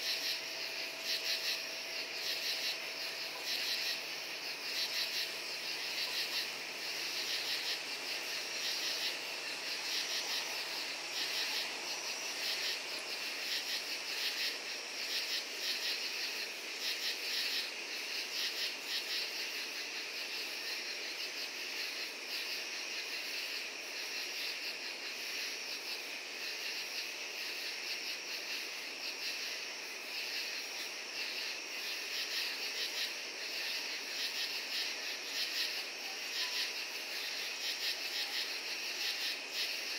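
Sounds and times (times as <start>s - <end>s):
crickets and katydids trilling: 0.0s - 39.9s.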